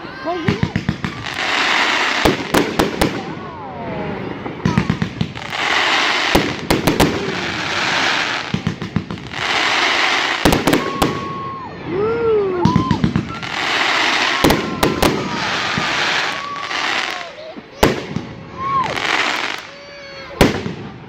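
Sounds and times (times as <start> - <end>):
fireworks crackling hiss: 0.2 - 11.6, 12.8 - 21.0
fireworks bangs: 0.3 - 11.8, 12.5 - 21.0.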